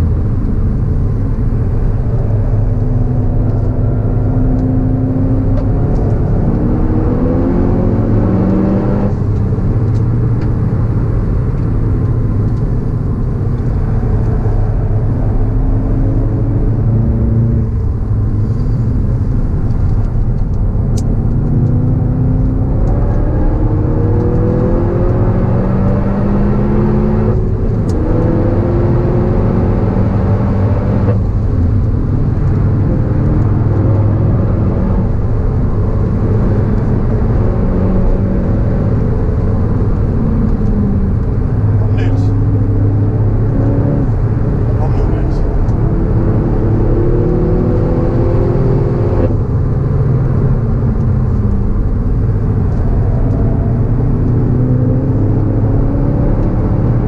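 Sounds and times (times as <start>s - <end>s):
car engine under full throttle: 0.0s - 57.0s
deep engine rumble: 0.0s - 57.0s.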